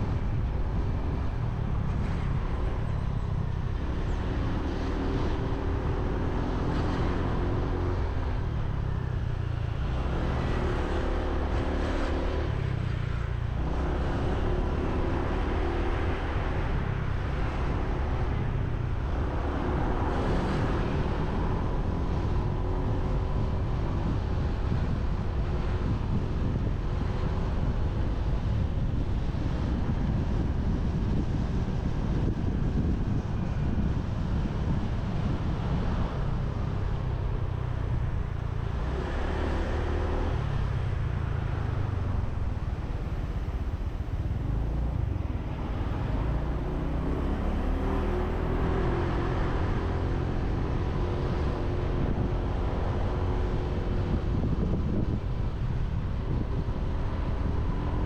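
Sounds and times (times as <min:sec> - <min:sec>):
road noise: 0:00.0 - 0:58.0
wind on microphone: 0:00.0 - 0:58.0.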